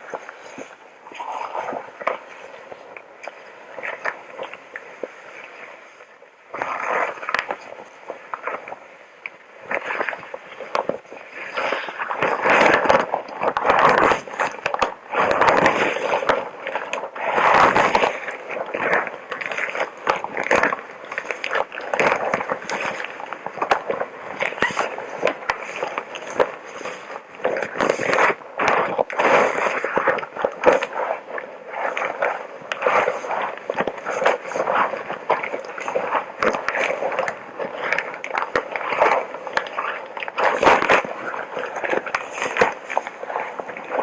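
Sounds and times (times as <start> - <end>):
suit material crinkling and rustling: 6.5 - 44.0.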